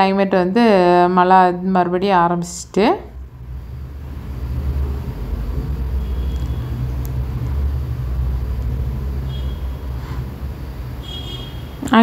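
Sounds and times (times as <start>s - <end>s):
road noise: 0.7s - 12.0s.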